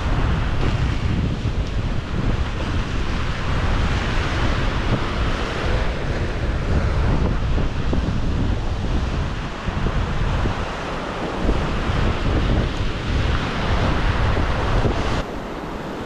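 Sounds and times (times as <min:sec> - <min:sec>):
surf breaking over rocks: 0:00.0 - 0:16.0
wind buffeting microphone: 0:00.0 - 0:16.0.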